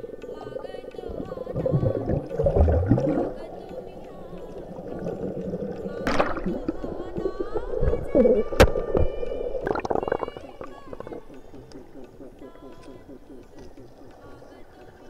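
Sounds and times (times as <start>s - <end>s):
underwater gurgling and sloshing: 0.0s - 15.0s.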